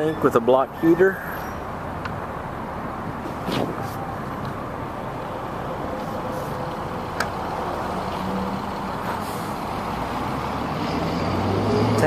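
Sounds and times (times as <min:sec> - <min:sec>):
motor vehicle noise: 0:00.0 - 0:12.0.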